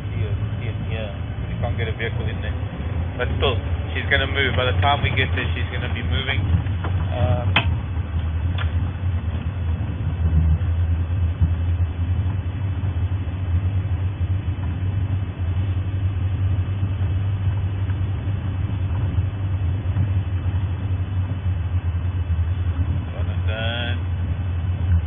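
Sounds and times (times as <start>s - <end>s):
road noise: 0.0s - 25.0s
vehicle engine drone: 0.0s - 25.0s.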